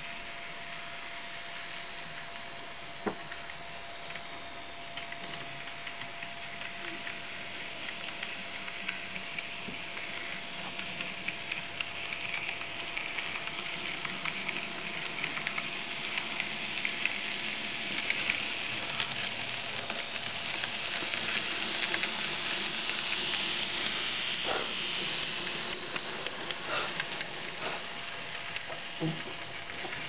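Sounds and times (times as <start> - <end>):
model train running on track: 0.0 - 30.0.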